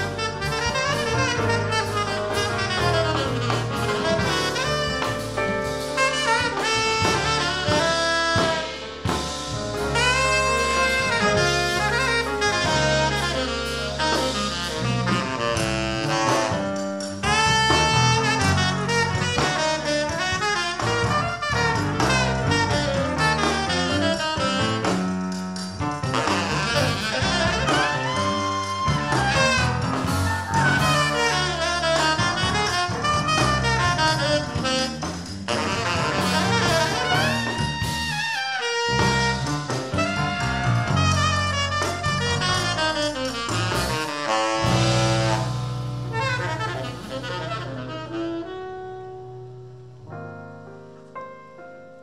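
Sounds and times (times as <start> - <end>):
drum kit: 0.0 - 49.2
tenor saxophone lead: 0.0 - 50.3
electric bass: 0.0 - 51.0
electric piano: 0.0 - 52.0.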